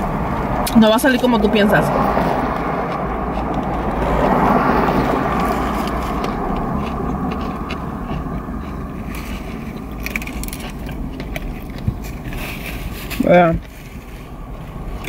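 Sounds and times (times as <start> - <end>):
vehicle cabin rumble and hiss: 0.0 - 15.0.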